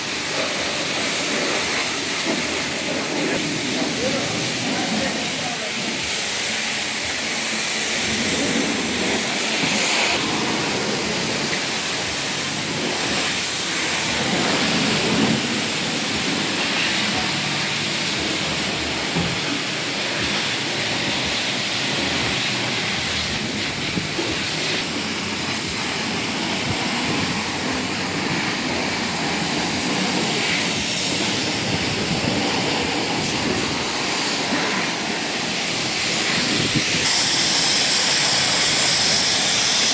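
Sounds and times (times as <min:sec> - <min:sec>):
pressure washer spraying water: 0:00.0 - 0:39.9.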